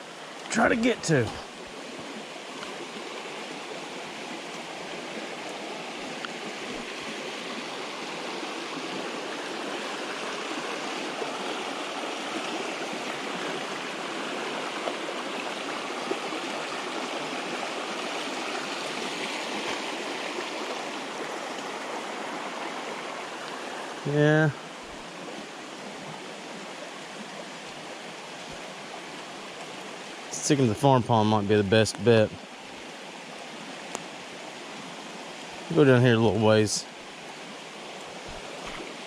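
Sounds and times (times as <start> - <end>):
creek rushing: 0.0 - 39.0.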